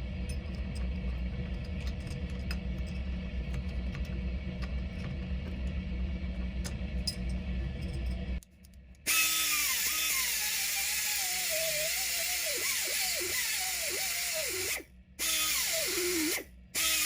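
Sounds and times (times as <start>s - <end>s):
motor running with low drone: 0.0s - 17.0s.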